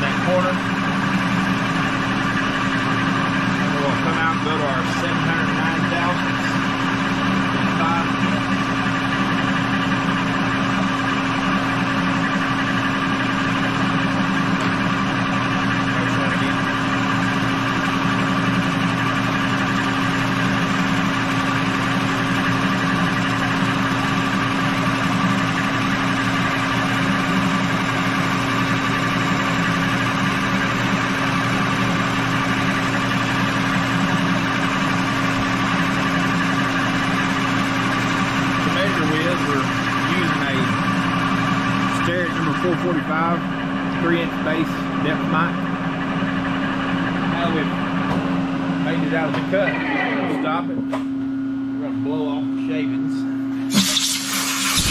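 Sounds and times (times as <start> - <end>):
lathe running: 0.0 - 50.8, 53.6 - 54.9.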